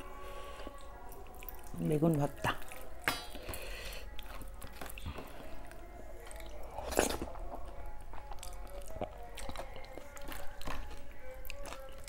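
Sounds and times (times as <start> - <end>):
soft background music: 0.0 - 12.0
mouth chewing sounds: 0.5 - 12.0.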